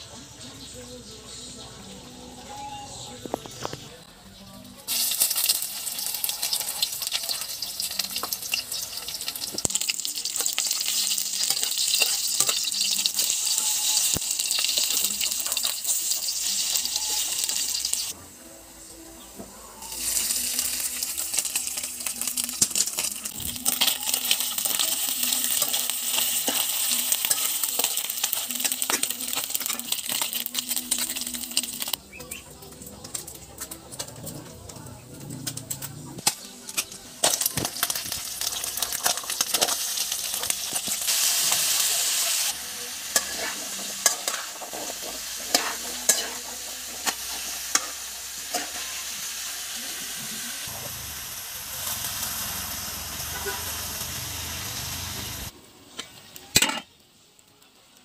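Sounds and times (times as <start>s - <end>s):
garlic and mushrooms sizzling in wok: 4.9s - 34.1s, 36.2s - 57.0s.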